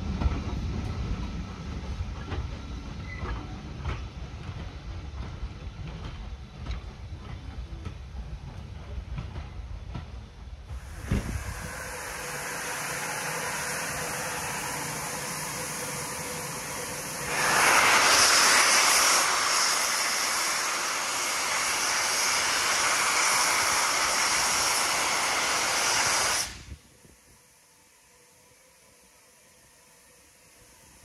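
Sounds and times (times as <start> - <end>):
steam locomotive hissing: 0.0 - 31.0.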